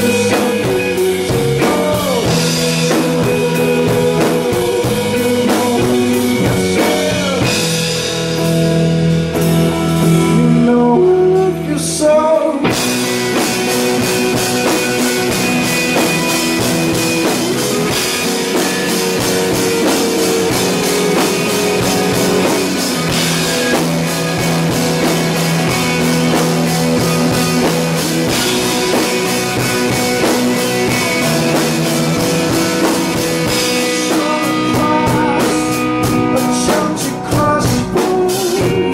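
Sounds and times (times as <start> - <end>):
person singing: 0.0 - 8.0, 10.0 - 38.9
drums: 0.0 - 38.9
rock band playing: 0.0 - 38.9.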